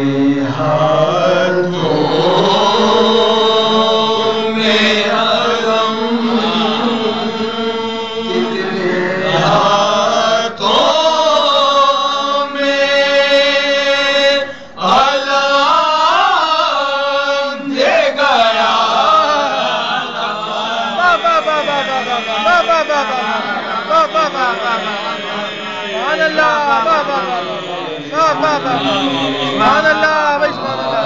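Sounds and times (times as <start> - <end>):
men chanting together: 0.0 - 31.0.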